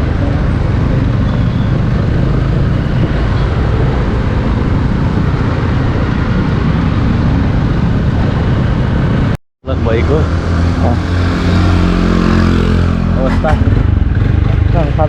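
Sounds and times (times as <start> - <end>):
motorcycle engine drone: 0.0 - 15.0
wind rumble on microphone: 0.0 - 15.0.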